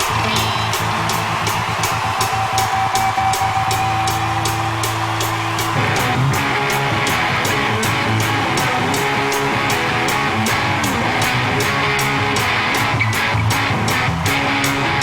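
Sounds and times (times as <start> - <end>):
bass guitar: 0.0 - 15.0
cymbal ticking: 0.0 - 15.0
drums: 0.0 - 15.0
electric guitars strumming: 0.0 - 15.0.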